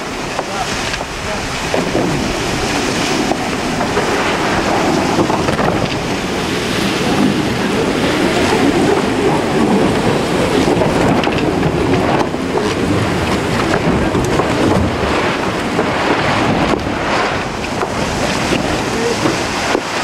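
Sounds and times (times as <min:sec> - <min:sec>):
rushing water: 0:00.0 - 0:20.0
wind rushing: 0:00.0 - 0:20.0.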